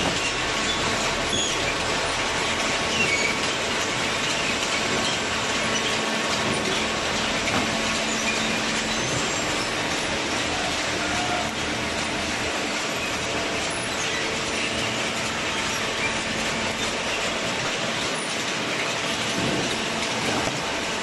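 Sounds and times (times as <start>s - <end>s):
baler mechanical noise: 0.0s - 21.0s.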